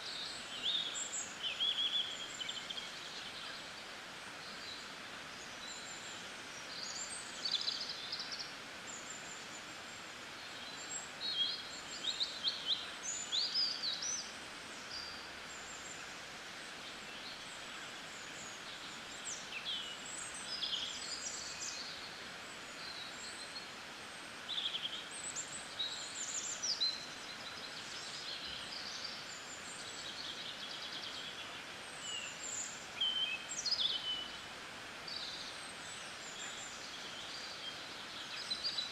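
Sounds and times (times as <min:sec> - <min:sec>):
rain hiss: 0:00.0 - 0:38.9
songbirds chirping and trilling: 0:00.0 - 0:38.9.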